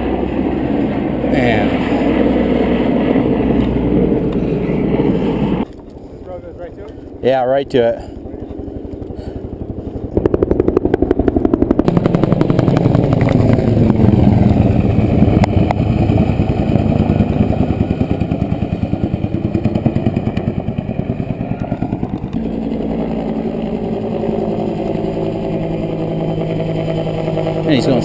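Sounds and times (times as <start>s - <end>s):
fast pulsing engine or rotor: 0.0s - 28.0s.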